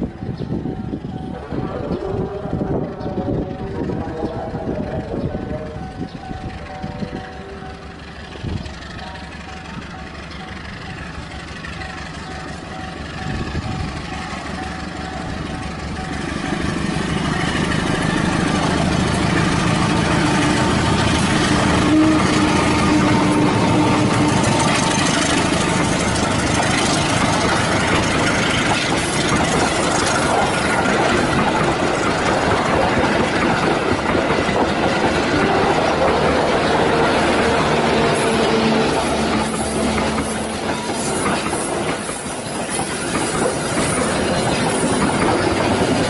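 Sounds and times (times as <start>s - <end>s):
locomotive engine running: 0.0s - 46.0s
train coaches rolling past: 0.0s - 46.0s.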